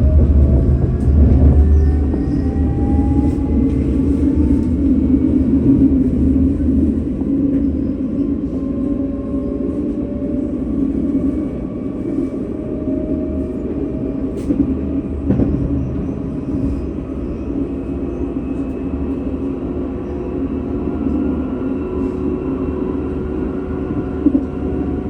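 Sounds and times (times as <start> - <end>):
tram rumbling along tracks: 0.0 - 25.0.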